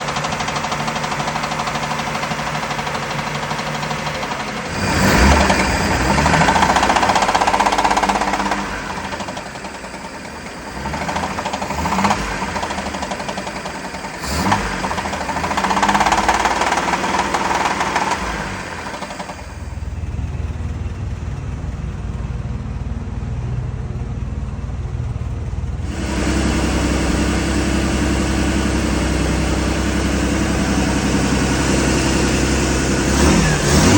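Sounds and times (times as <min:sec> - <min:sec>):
boat engine idling and revving: 0:00.0 - 0:33.9.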